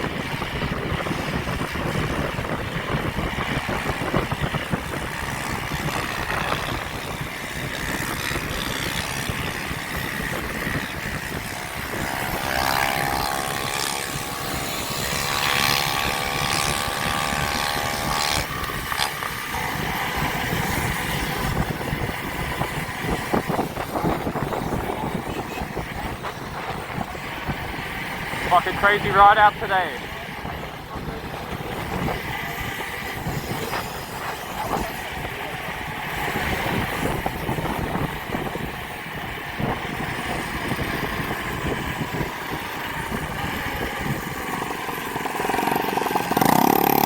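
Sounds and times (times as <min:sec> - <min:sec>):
motor vehicle engine: 0:00.0 - 0:47.0
traffic noise: 0:00.0 - 0:47.0
wind noise: 0:00.0 - 0:47.0.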